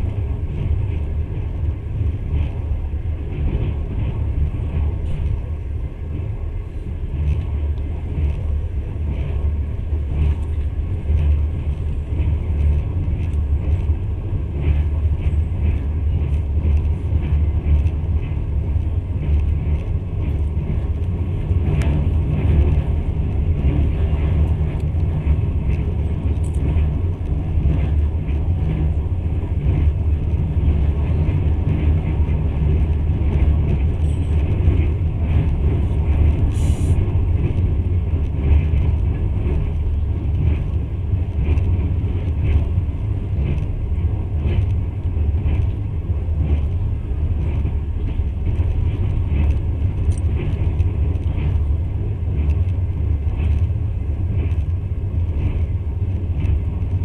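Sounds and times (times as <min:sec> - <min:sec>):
train clicks: 0:00.0 - 0:57.0
train rumble inside carriage: 0:00.0 - 0:57.0.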